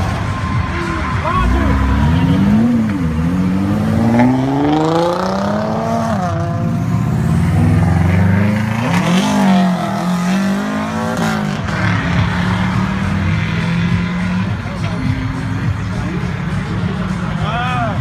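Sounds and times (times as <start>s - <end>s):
car engine revving: 0.0s - 17.4s.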